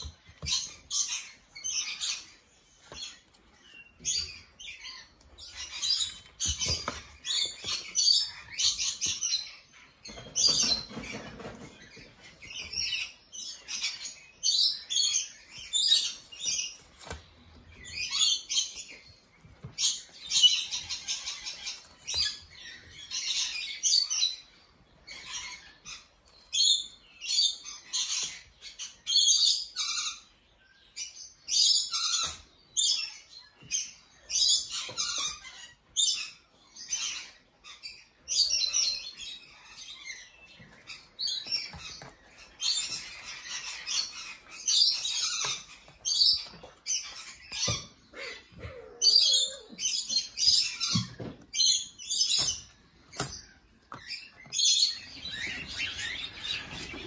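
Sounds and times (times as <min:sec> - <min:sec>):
cage birds chirping: 0:00.0 - 0:57.0.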